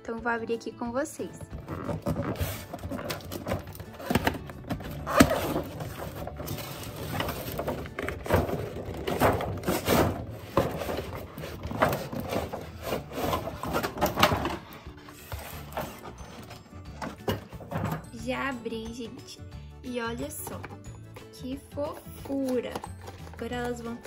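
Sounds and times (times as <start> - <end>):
cardboard and plastic packaging rustling: 1.3 - 18.2, 20.4 - 24.0.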